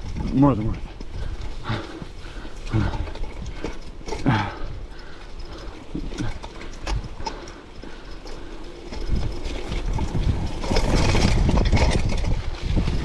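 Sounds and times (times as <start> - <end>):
bike rattling over rough trail: 0.0 - 13.0
rider breathing hard: 0.8 - 13.0.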